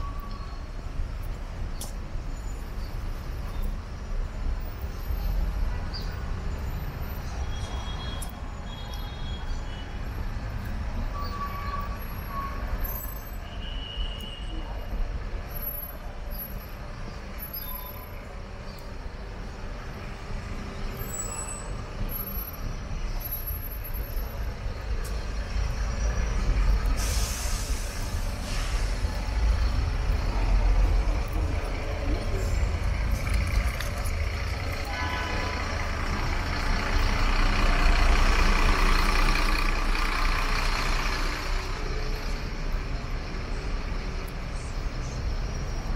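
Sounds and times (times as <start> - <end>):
low rumble of traffic: 0.0 - 45.9.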